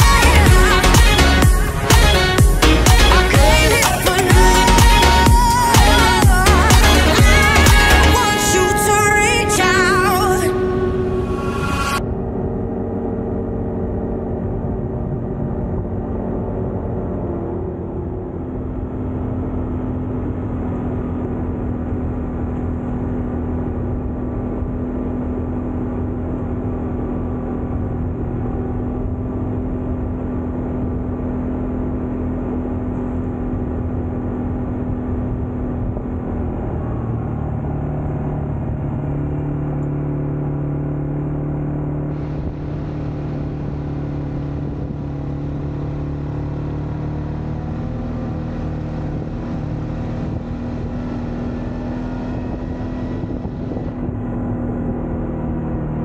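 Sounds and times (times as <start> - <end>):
quad bike engine running: 0.0 - 11.0, 12.3 - 56.0.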